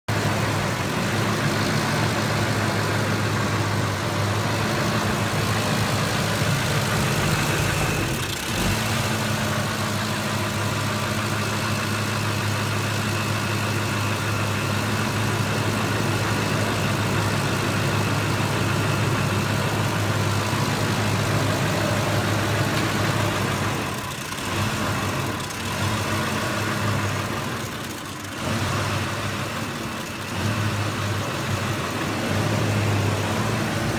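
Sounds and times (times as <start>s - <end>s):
engine idling roughly: 0.1s - 33.9s.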